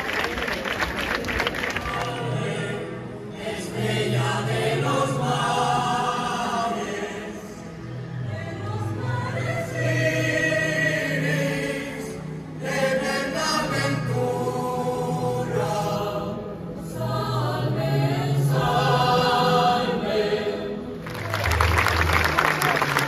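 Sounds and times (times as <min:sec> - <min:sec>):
choir singing a hymn: 0:01.8 - 0:21.1.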